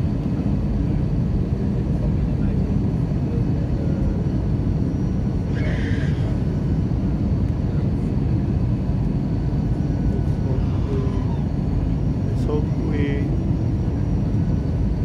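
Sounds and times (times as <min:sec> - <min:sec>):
airliner engine rumble in cabin: 0:00.0 - 0:15.0.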